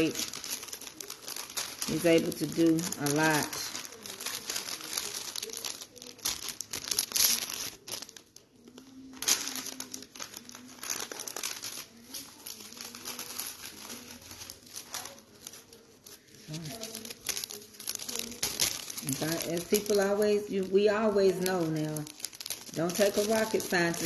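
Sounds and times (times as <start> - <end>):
crinkling and rustling: 0.0 - 24.0.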